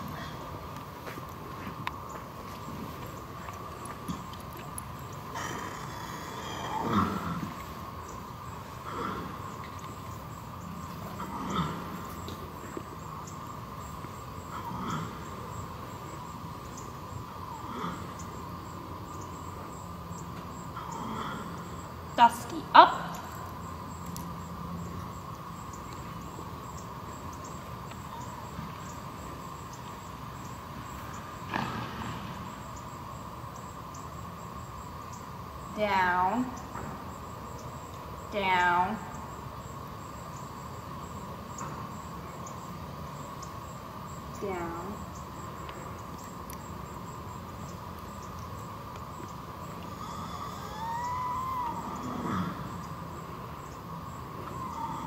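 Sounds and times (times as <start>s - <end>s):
constant high whine: 0.0s - 55.0s
steady background hum: 0.0s - 55.0s.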